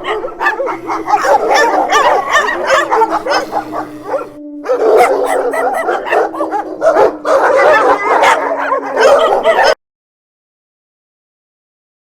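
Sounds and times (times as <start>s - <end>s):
dog howling: 0.0s - 9.8s
dogs barking and yipping: 0.0s - 9.8s.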